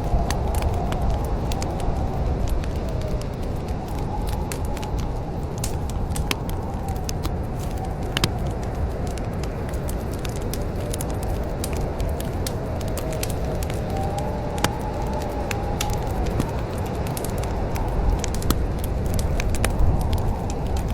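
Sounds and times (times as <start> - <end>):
low rumble of flames: 0.0 - 20.9
wood fire crackling: 0.0 - 20.9
sharp pops of fire: 2.6 - 20.9.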